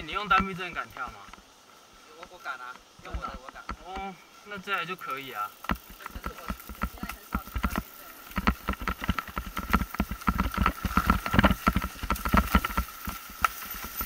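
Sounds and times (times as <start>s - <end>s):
bike rattling over rough trail: 0.0s - 1.5s, 2.2s - 14.0s.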